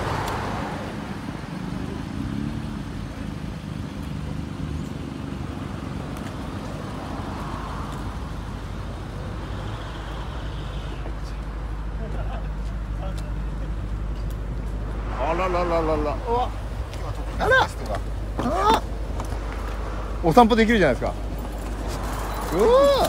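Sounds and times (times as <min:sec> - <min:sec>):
car engine idling: 0:00.8 - 0:23.0.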